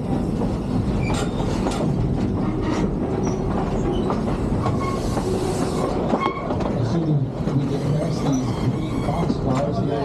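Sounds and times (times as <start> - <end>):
train wheels clicking over rail joints: 0.0 - 9.8
train rumble: 0.0 - 10.0.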